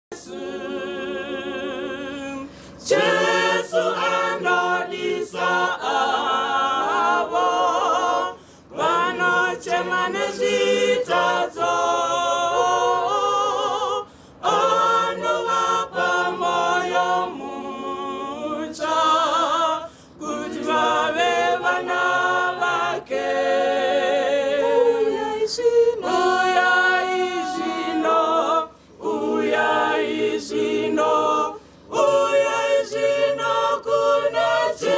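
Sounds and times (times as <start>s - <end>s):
choir singing a hymn: 0.1s - 34.9s.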